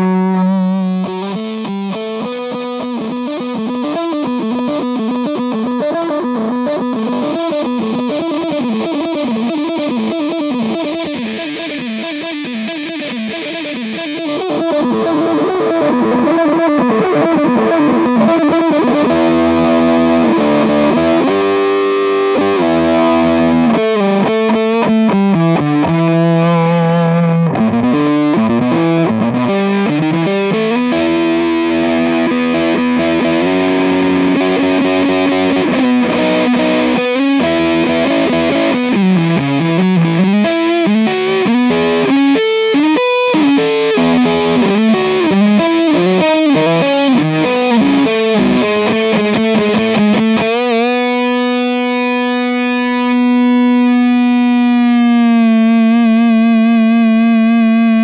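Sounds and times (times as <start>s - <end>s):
fuzz electric guitar: 0.0s - 58.0s.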